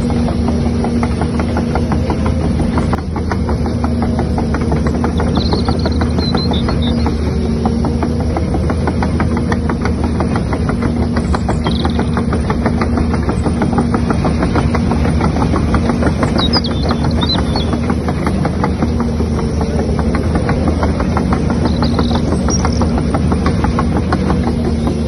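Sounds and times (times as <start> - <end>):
electric motor hum: 0.0 - 25.0
fast even gear clicking: 0.0 - 25.0.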